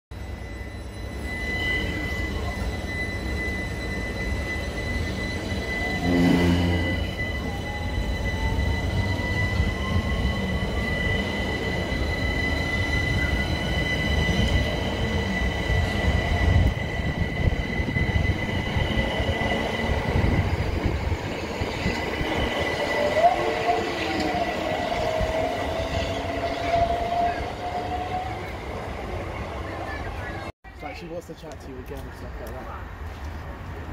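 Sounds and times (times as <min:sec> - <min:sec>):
electric train whine rising: 0:00.2 - 0:29.9
train wheels rumbling on rails: 0:00.4 - 0:33.9.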